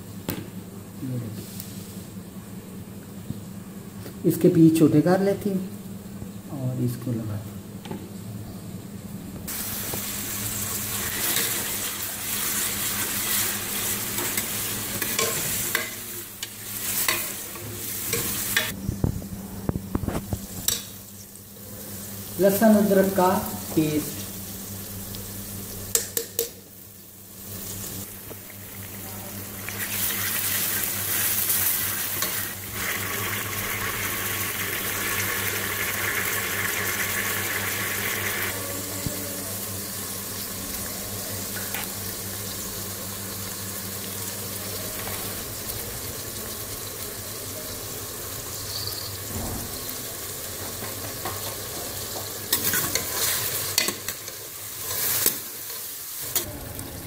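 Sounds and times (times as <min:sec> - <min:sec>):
onions and chicken sizzling in oil: 0:09.4 - 0:57.0.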